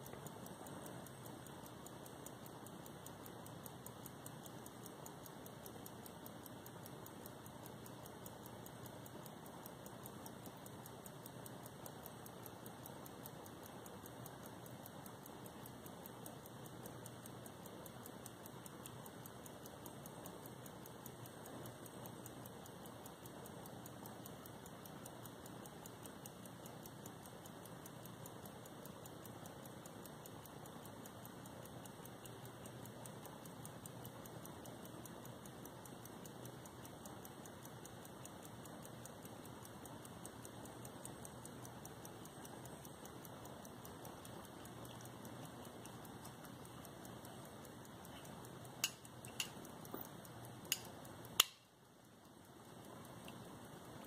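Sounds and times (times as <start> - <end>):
pocket watch ticking: 0.0 - 54.0
steady hiss: 0.0 - 54.0.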